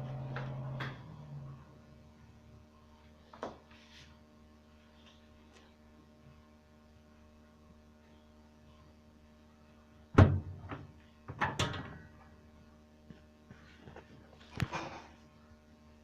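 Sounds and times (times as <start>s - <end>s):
faint mains hum: 0.0s - 16.0s.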